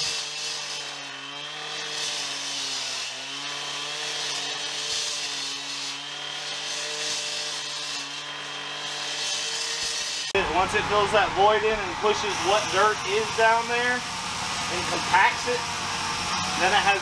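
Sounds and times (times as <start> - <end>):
cut-off saw cutting concrete: 0.0 - 17.0.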